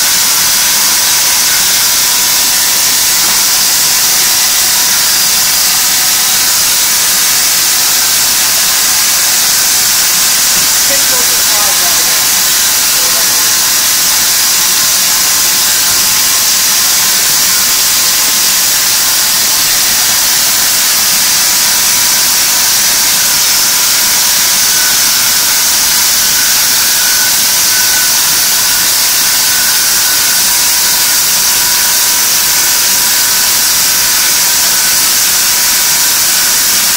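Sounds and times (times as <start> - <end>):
leather splitting machine hissing: 0.0 - 36.9.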